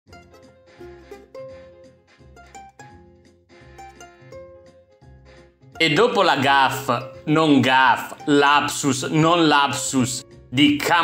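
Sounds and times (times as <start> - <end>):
plucked melody: 0.1 - 5.0, 5.7 - 10.4.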